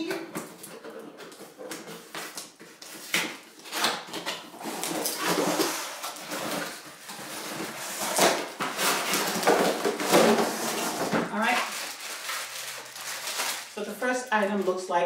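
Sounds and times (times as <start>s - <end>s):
cardboard and packaging rustling: 0.0s - 15.0s.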